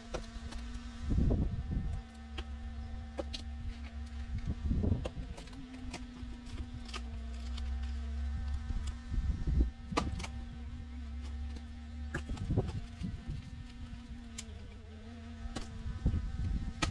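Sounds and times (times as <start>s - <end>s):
diesel engine droning: 0.0s - 16.9s
heavy rumbles: 1.0s - 14.8s.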